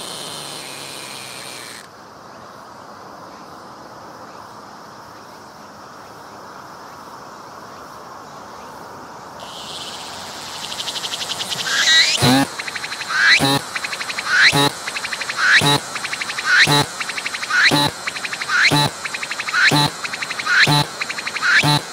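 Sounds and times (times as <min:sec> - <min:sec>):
cicada singing: 0:00.0 - 0:21.9
faint distant insects: 0:00.0 - 0:21.9
steady low hiss: 0:00.0 - 0:21.9.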